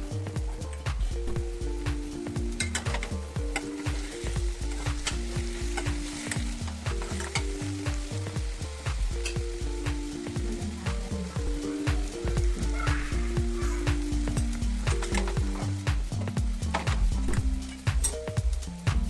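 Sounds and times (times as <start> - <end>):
music with bass beat: 0.0 - 19.0
food sizzling in a pan: 1.6 - 17.0.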